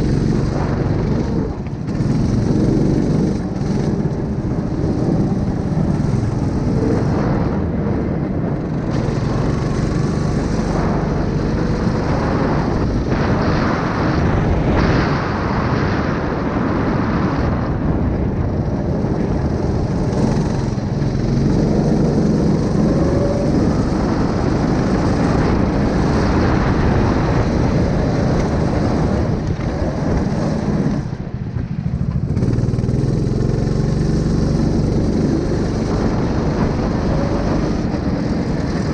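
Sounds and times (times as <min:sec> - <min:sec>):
small engine running: 0:00.0 - 0:14.2, 0:18.9 - 0:31.1, 0:31.8 - 0:38.9.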